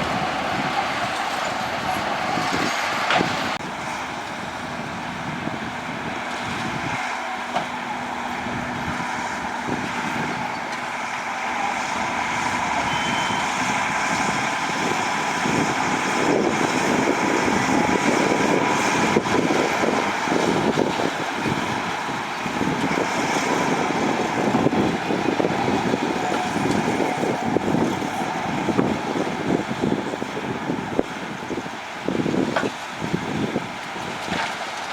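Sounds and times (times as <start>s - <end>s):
heavy machinery diesel engines: 0.0s - 34.9s.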